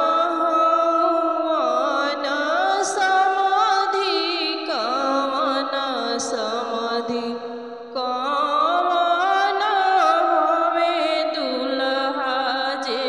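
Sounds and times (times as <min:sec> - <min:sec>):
woman singing folk song: 0:00.0 - 0:13.0.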